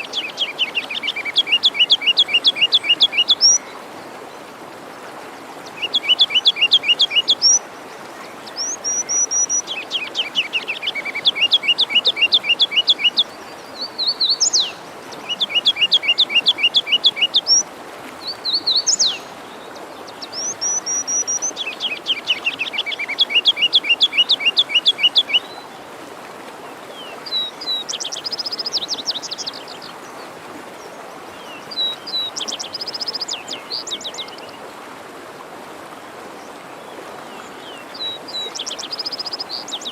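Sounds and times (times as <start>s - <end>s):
songbirds singing trills: 0.0s - 3.8s, 5.6s - 7.6s, 8.2s - 17.6s, 18.2s - 25.7s, 27.0s - 30.2s, 30.8s - 34.6s, 37.3s - 39.9s
forest stream rushing: 0.0s - 39.9s.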